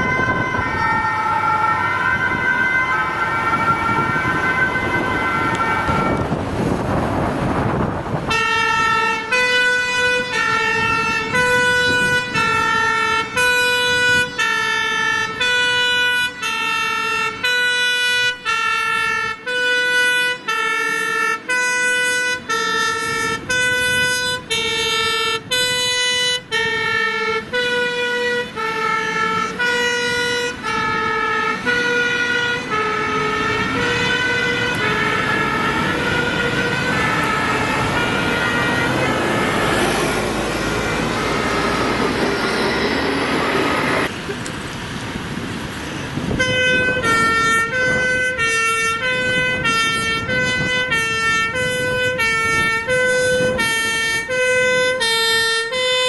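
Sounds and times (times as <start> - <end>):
two-tone fire truck siren: 0.0 - 56.0.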